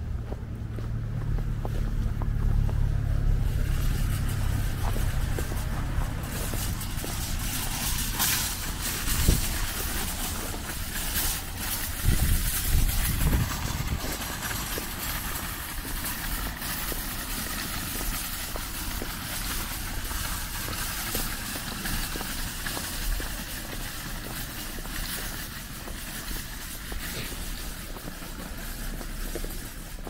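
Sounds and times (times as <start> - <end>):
van engine driving off: 0.0 - 30.0
steady hiss: 3.2 - 30.0
small irregular clatters: 3.5 - 30.0.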